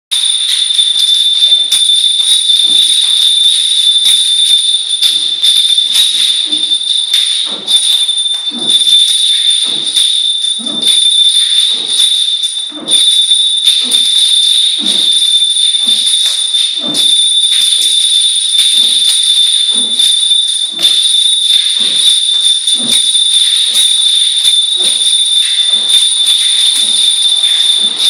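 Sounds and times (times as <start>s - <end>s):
metal rings jangling and clashing: 0.1s - 28.0s.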